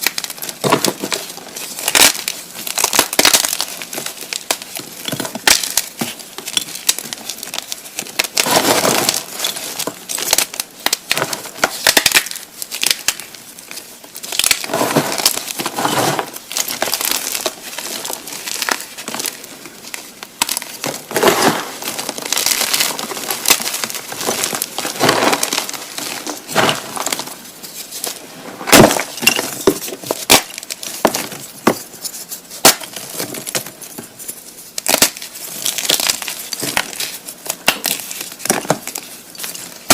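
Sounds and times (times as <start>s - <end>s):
chalk blocks crushed by hand: 0.0s - 27.4s, 28.0s - 32.0s, 32.6s - 34.1s, 34.8s - 39.9s.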